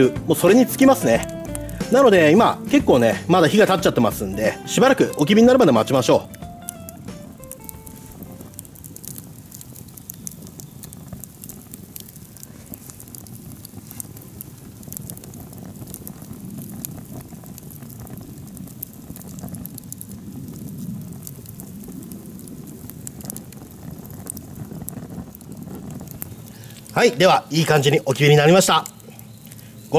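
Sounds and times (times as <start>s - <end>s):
fire low rushing noise: 0.0s - 29.9s
wood fire crackling and popping: 0.0s - 29.9s.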